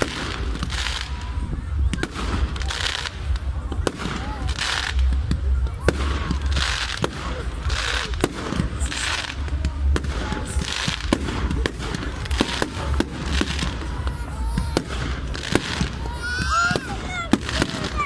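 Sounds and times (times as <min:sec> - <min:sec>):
crackling hiss of fireworks: 0:00.0 - 0:18.0
fireworks bangs: 0:00.0 - 0:18.0.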